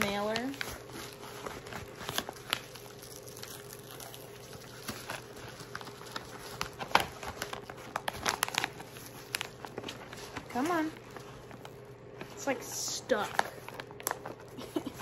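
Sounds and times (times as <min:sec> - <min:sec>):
mailer crinkling and crackling: 0:00.0 - 0:15.0.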